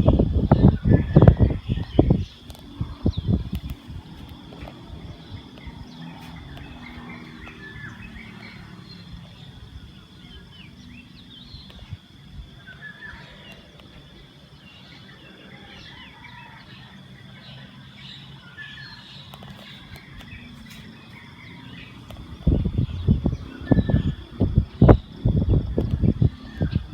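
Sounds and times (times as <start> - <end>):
birds chirping: 0.0 - 26.9
steady high whine: 0.0 - 26.9.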